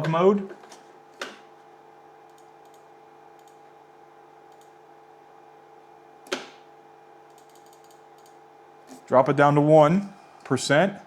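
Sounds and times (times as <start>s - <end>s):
machine electrical hum: 0.0s - 11.0s.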